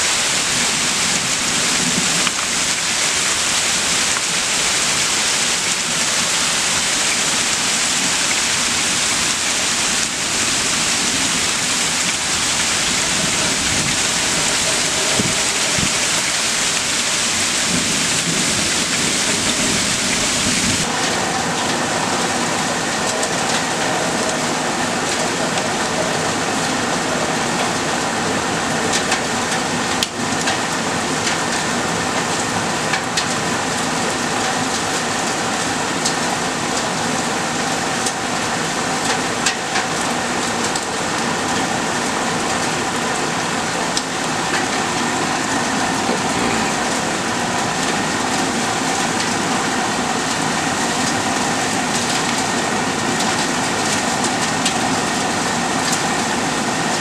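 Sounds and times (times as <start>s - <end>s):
heavy rain: 0.0s - 57.0s
raindrops ticking close by: 0.2s - 57.0s.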